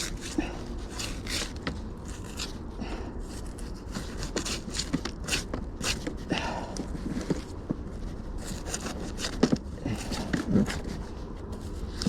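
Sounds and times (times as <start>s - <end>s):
scraping and rubbing: 0.0s - 12.0s.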